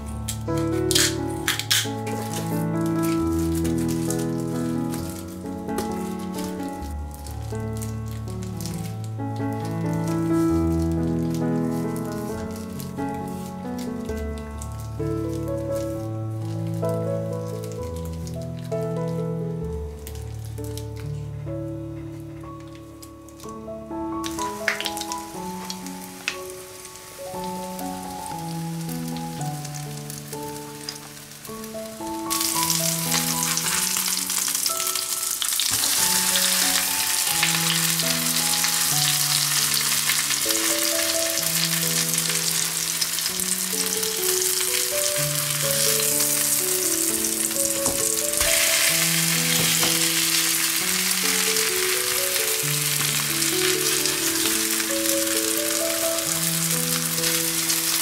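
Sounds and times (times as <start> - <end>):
cutlets sizzling in hot oil: 0.0 - 14.1, 24.2 - 58.0
slow melody of held notes: 0.0 - 58.0.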